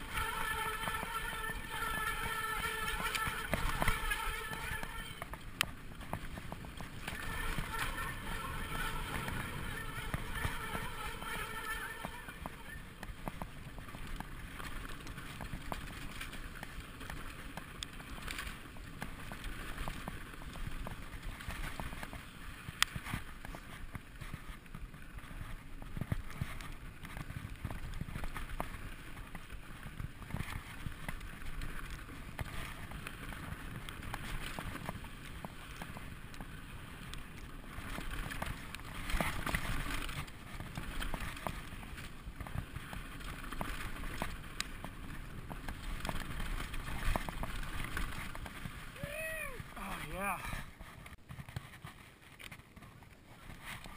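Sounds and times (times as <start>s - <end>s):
bike rattles and clicks: 0.0s - 53.9s
bike tyres rumbling on dirt: 0.0s - 53.9s.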